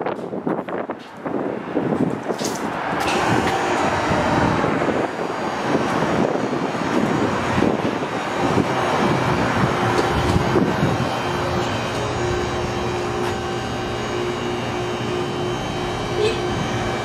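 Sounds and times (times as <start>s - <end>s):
car engine exhaust rumble: 3.0s - 17.0s.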